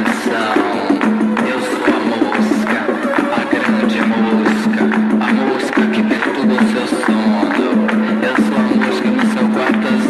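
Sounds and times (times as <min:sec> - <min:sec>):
percussion beat: 0:00.0 - 0:10.0.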